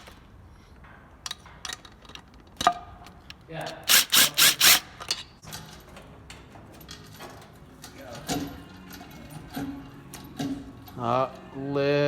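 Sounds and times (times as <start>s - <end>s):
metal parts and tools clicking: 1.2s - 11.0s.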